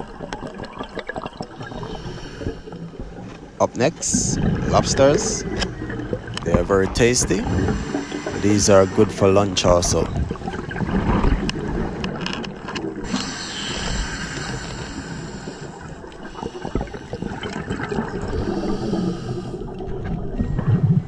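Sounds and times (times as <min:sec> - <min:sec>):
air bubbles gurgling: 0:00.0 - 0:21.0
underwater rushing: 0:00.0 - 0:21.0.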